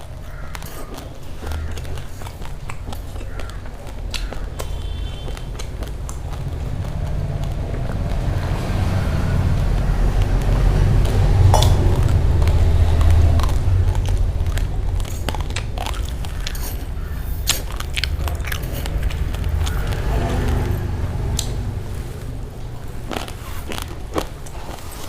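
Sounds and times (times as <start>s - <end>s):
rice grains crunching: 0.0s - 25.0s
low rumble: 4.9s - 25.0s.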